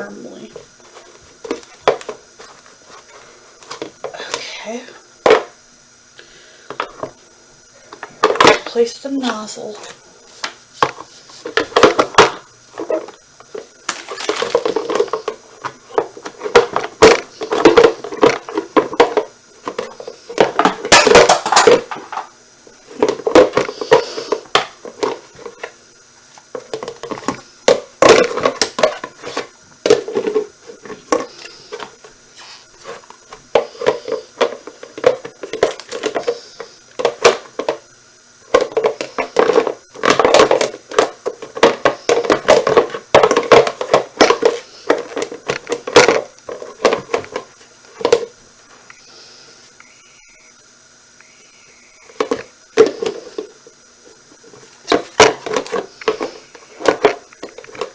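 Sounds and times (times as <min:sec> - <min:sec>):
hard plastic parts clattering: 0:00.8 - 0:04.4, 0:07.9 - 0:22.3, 0:22.9 - 0:25.7, 0:26.4 - 0:32.1, 0:32.8 - 0:37.8, 0:38.5 - 0:48.4, 0:52.1 - 0:53.6, 0:54.4 - 0:57.9.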